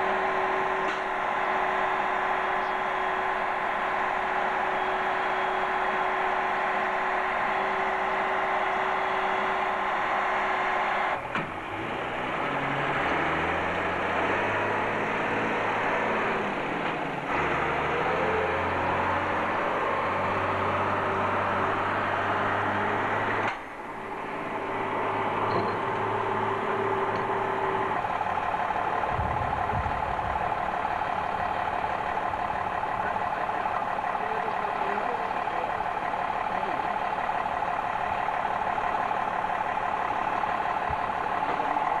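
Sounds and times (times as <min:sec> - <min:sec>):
steady whine: 0:00.0 - 0:12.4, 0:13.4 - 0:42.0
heavy vehicle engines running: 0:00.0 - 0:42.0.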